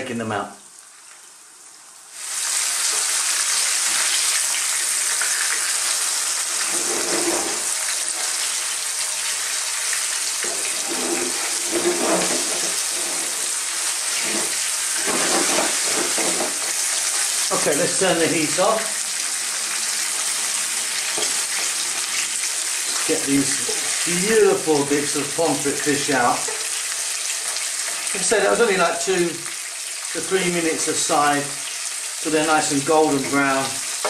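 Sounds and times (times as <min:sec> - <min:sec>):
fish sizzling in hot oil: 0:00.7 - 0:34.0.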